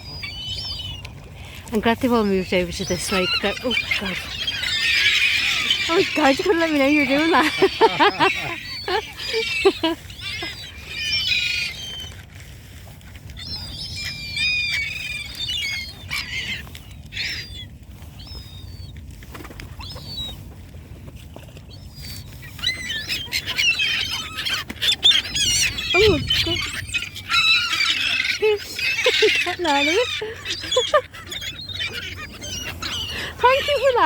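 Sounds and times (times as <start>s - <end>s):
water birds squealing: 0.0s - 20.7s, 21.4s - 34.0s.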